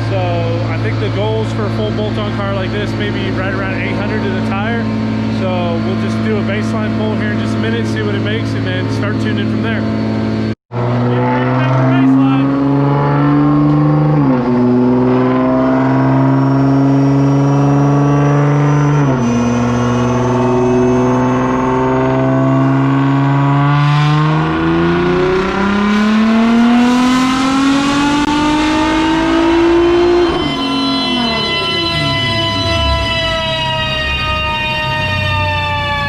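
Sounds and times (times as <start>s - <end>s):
car engine revving under load: 0.0s - 34.6s.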